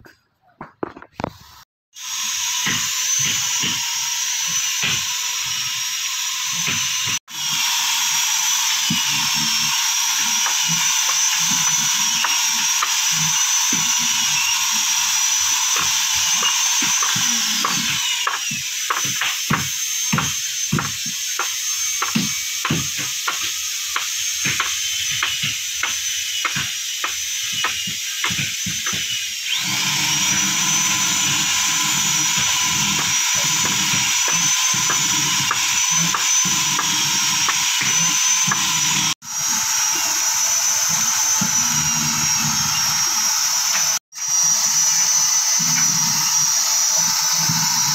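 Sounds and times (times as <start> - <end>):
electric drill on wood: 1.2 - 47.9.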